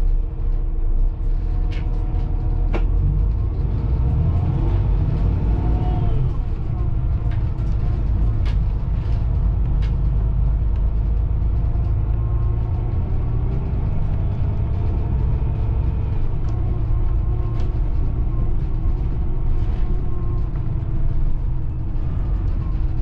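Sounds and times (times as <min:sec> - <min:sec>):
coach engine and road rumble: 0:00.0 - 0:23.0.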